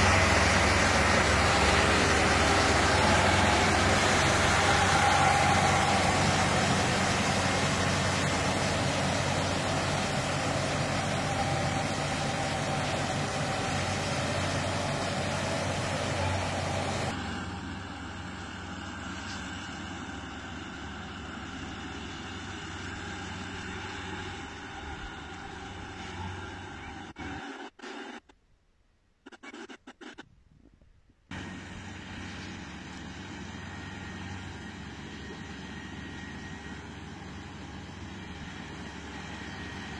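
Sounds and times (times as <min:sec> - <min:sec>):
combine harvester engine hum: 0:00.0 - 0:27.6, 0:31.1 - 0:39.9.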